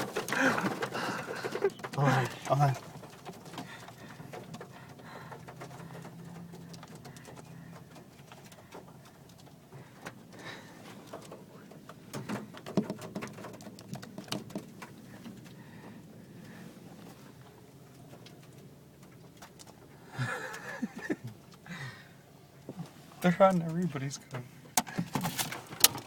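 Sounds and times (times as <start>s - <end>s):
birds pecking on car body: 0.0s - 26.0s.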